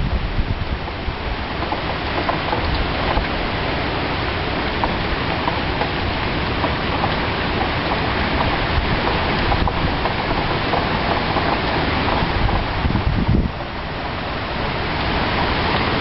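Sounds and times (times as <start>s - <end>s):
heavy rain driven by strong wind: 0.0s - 16.0s.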